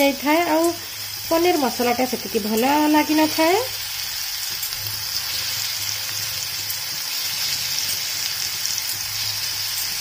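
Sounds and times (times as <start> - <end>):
cheese frying in hot oil: 0.0 - 10.0.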